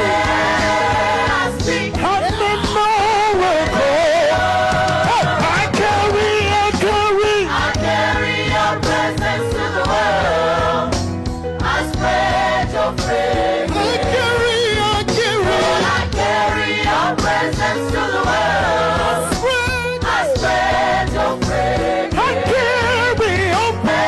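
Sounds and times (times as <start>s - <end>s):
choir singing gospel: 0.0s - 24.0s
steady beat and bass: 0.0s - 24.0s.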